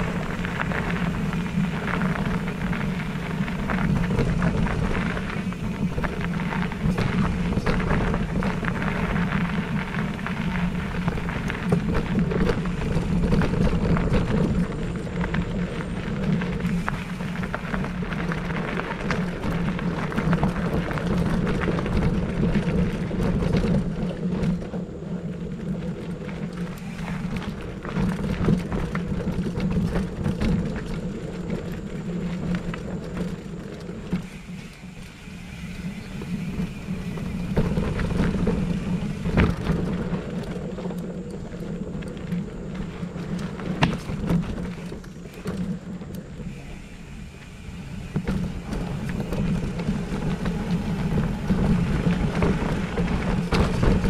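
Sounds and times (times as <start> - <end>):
bike rattling over bumps: 0.0 - 54.0
bike tyres crunching on gravel: 0.0 - 54.0.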